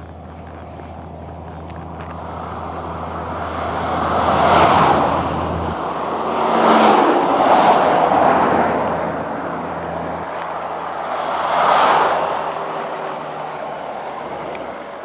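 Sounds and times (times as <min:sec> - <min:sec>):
cars passing at highway speed: 0:00.0 - 0:15.0.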